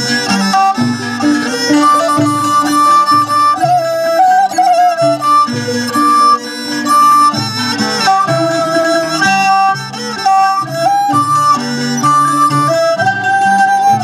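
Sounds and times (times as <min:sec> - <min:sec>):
fiddle melody: 0:00.0 - 0:14.0
plucked lutes: 0:00.0 - 0:14.0.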